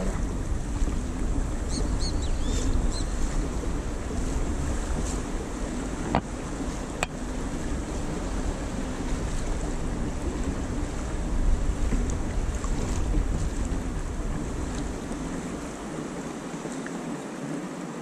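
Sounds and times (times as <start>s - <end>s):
water lapping along kayak hull: 0.0s - 18.0s
wind buffeting microphone: 0.0s - 18.0s.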